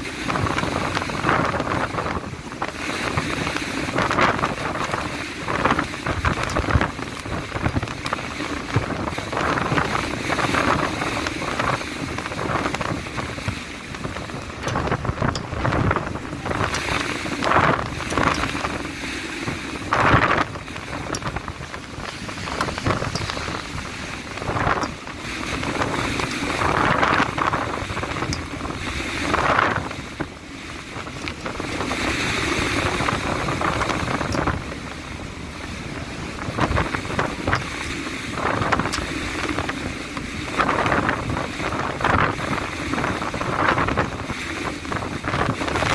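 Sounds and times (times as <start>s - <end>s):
gale wind buffeting microphone: 0.0s - 45.9s
rough sea rushing: 0.0s - 45.9s.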